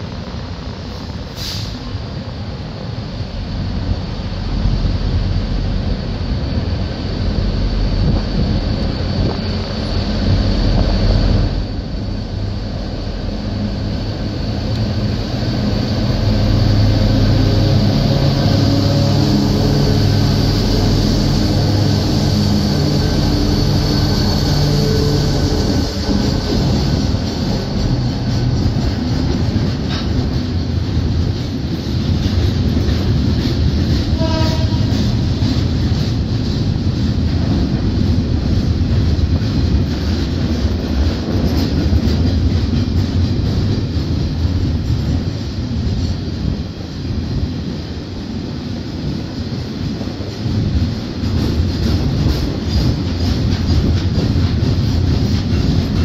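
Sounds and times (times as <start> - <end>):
diesel locomotive engines: 0.0 - 56.0
train wheel clatter: 0.0 - 56.0.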